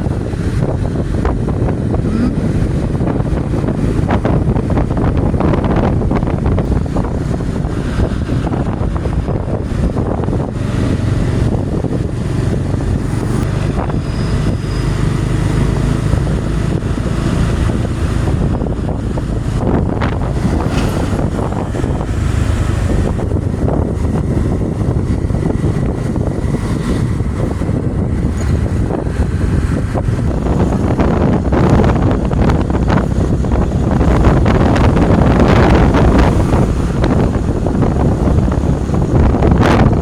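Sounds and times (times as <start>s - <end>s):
motorcycle engine: 0.0s - 40.0s
road noise: 0.0s - 40.0s
wind buffeting microphone: 0.0s - 40.0s.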